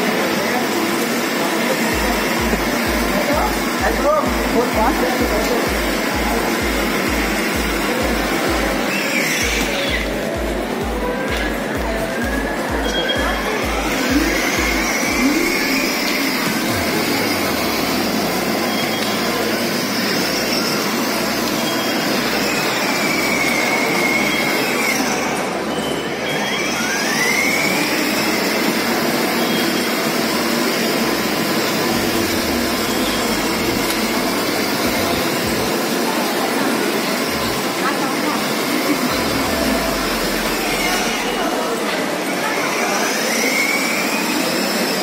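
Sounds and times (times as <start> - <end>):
motor whine rising and falling: 0.0 - 45.0
toy car motors whirring: 0.0 - 45.0.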